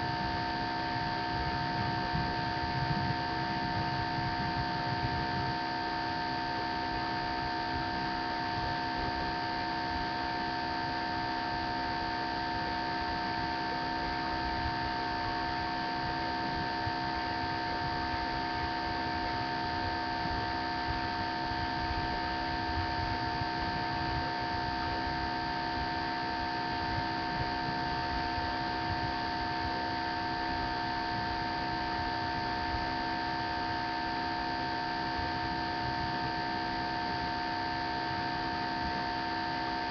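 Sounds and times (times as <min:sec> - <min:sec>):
electrical hum and hiss: 0:00.0 - 0:39.9.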